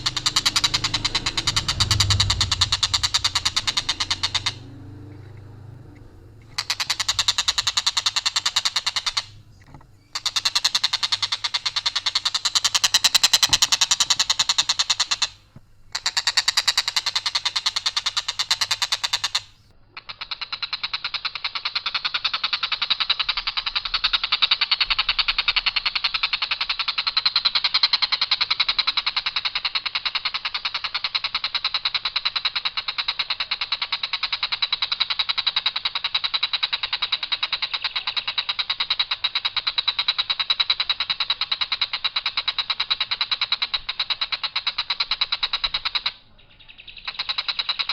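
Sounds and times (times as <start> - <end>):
bird harsh rattling trill: 0.0 - 46.2.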